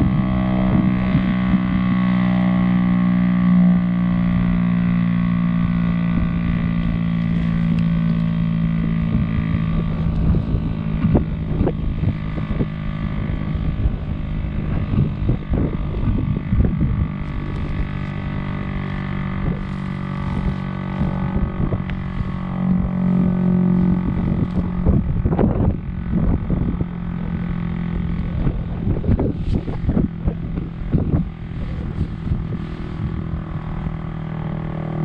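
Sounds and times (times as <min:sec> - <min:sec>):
warning siren drone: 0:00.0 - 0:35.0
wind buffeting microphone: 0:00.0 - 0:35.0.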